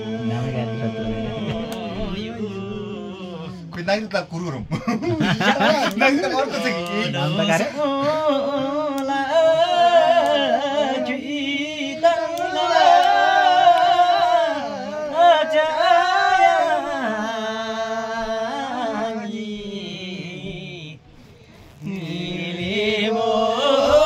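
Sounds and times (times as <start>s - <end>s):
man singing unaccompanied: 0.0s - 3.8s, 5.5s - 21.1s, 21.8s - 24.0s.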